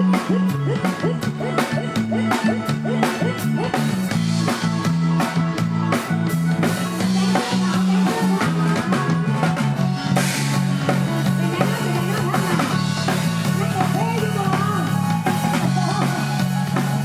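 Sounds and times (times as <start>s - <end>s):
bass line: 0.0s - 17.0s
drum kit beat: 0.0s - 17.0s
guitar: 0.0s - 17.0s.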